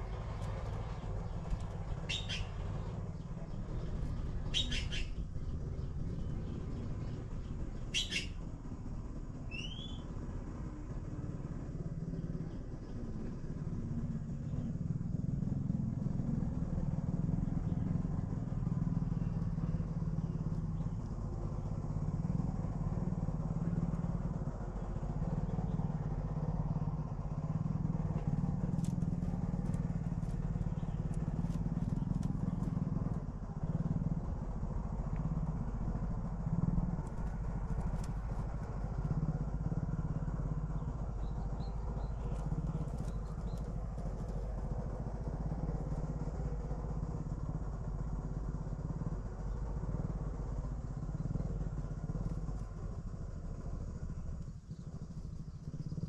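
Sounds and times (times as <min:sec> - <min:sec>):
low motor-like rumble: 0:00.0 - 0:56.0.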